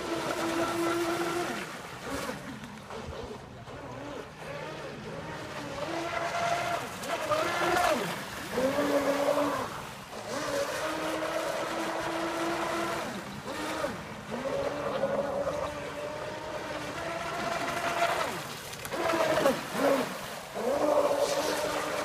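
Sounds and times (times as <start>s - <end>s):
speedboat motor whining: 0.0s - 22.0s.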